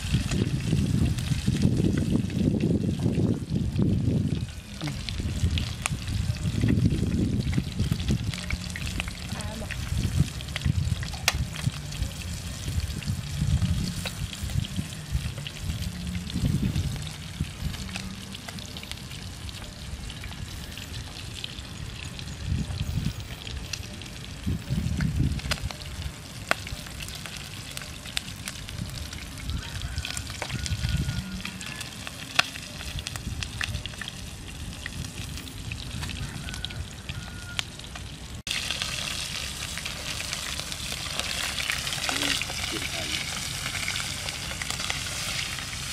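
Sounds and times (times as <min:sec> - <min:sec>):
crackles and pops of oil: 0:00.0 - 0:45.9
fish sizzling in frying oil: 0:00.0 - 0:45.9
low rumbles: 0:00.0 - 0:45.9.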